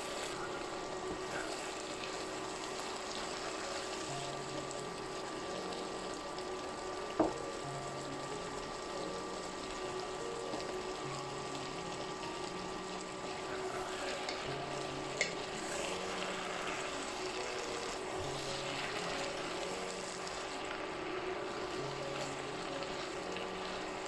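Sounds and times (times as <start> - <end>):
food sizzling in a pan: 0.0 - 24.0
soft background music: 0.0 - 24.0.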